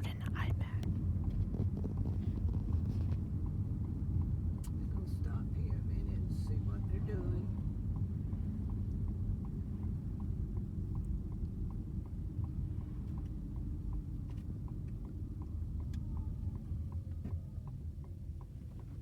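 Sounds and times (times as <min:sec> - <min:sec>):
low car cabin rumble: 0:00.0 - 0:19.0
car turn signal clicking: 0:00.2 - 0:19.0.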